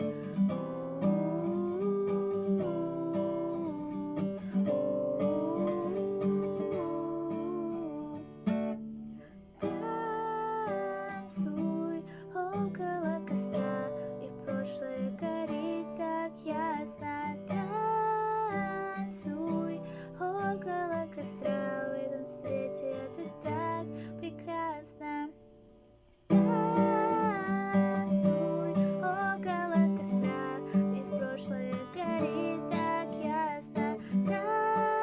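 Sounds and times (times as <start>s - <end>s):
person singing: 0.0s - 8.3s, 9.6s - 25.4s, 26.3s - 35.0s
acoustic guitar strumming: 0.0s - 25.2s, 26.3s - 35.0s.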